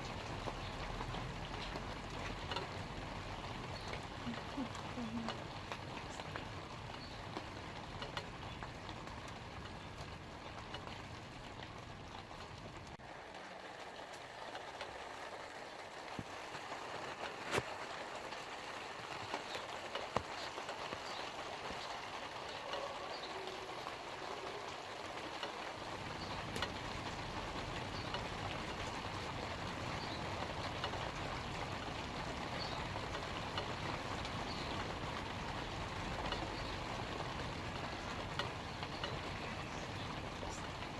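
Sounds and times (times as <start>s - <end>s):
light rain on leaves: 0.0s - 40.9s.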